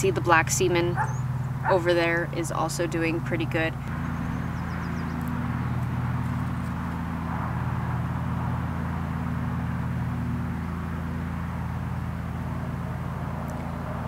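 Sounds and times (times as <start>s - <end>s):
low mechanical hum: 0.0s - 14.0s
rushing background noise: 0.0s - 14.0s.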